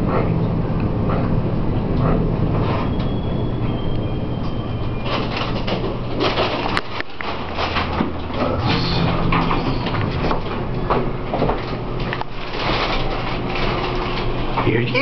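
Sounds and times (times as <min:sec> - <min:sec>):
elevator hum and rumble: 0:00.0 - 0:15.0.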